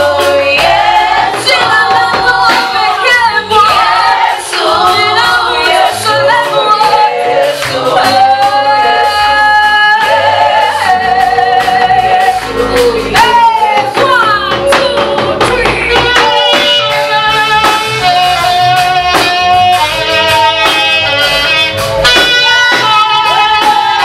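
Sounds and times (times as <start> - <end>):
vocal group singing a hymn: 0.0 - 24.0.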